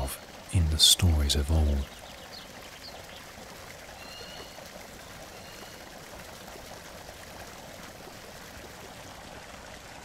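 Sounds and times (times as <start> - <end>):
stream trickling and rushing: 0.0 - 10.0.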